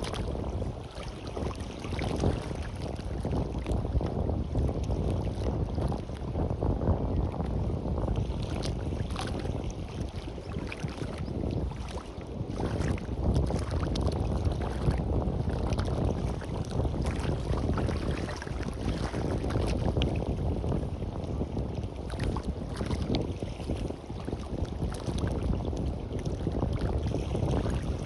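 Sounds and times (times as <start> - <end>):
sea waves washing on a beach: 0.0 - 28.0
wind rumble on microphone: 0.0 - 28.0.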